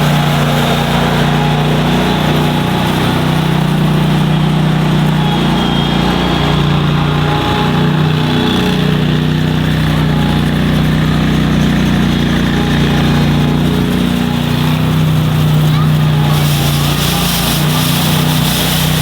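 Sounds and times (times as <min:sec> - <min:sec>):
snow machine engine running: 0:00.0 - 0:19.0.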